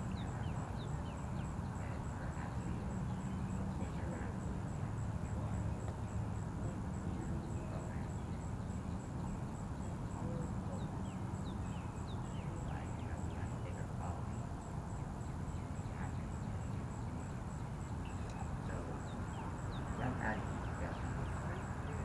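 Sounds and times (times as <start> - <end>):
low outdoor rumble and hiss: 0.0 - 22.0.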